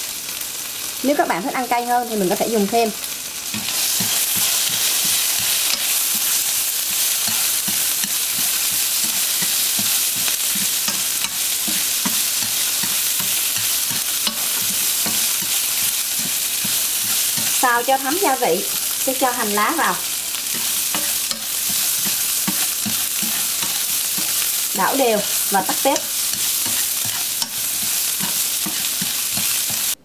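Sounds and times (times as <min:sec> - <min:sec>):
mushrooms sizzling in oil: 0:00.0 - 0:30.0
spatula scraping and knocking pan: 0:03.5 - 0:30.0.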